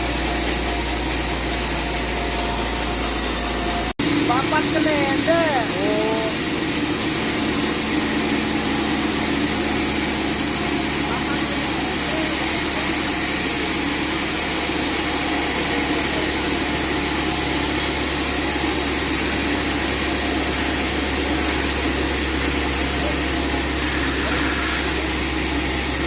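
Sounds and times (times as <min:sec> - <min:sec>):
band saw droning: 0:00.0 - 0:26.0.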